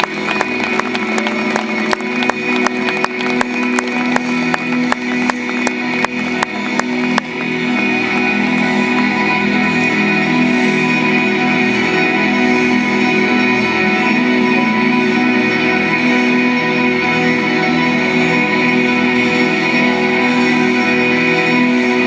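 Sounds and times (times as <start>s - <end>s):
layered electric guitars: 0.0s - 22.0s
post-rock band playing live: 0.0s - 22.0s.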